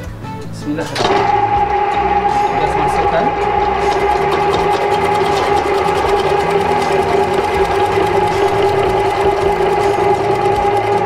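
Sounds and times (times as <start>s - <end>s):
vegetable cutter motor hum: 0.9s - 11.0s
fast fine ticking: 1.2s - 11.0s.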